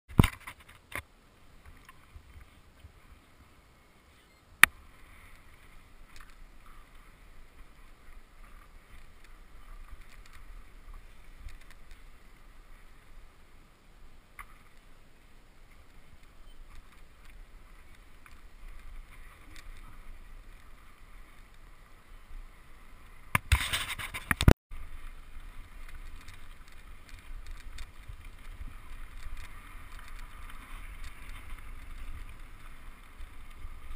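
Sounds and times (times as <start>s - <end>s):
bicycle rolling on gravel: 4.1s - 33.9s.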